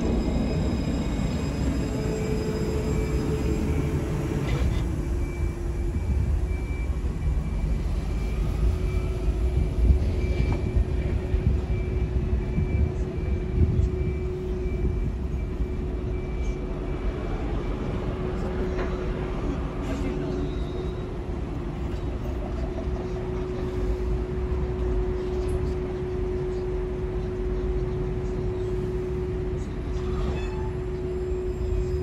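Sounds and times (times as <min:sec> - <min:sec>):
tram wheels rumbling on rail: 0:00.0 - 0:32.0.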